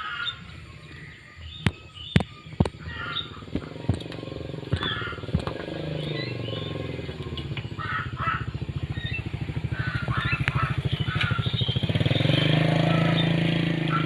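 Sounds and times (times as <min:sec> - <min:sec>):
small engine chugging: 0:02.7 - 0:14.0.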